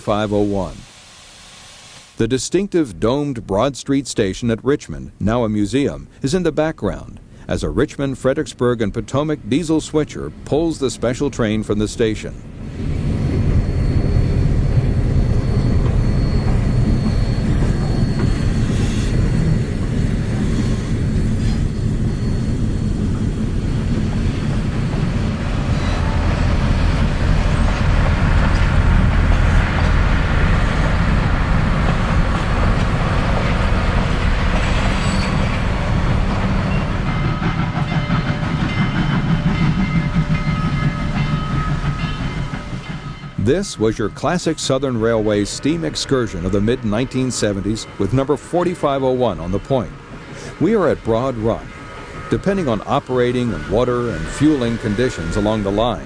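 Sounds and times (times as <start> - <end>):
train wheels on rails: 0.0 - 2.2, 7.0 - 56.0
diesel locomotive engine rumble: 5.8 - 56.0.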